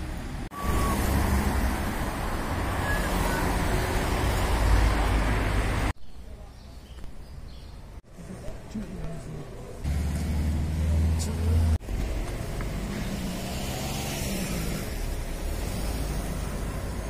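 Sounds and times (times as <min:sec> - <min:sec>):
cars passing on busy street: 0:00.0 - 0:17.0
quiet street hum: 0:00.0 - 0:17.0.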